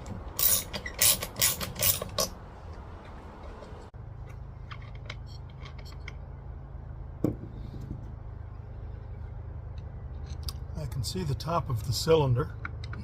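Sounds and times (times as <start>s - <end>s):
steady low hum: 2.0s - 13.0s.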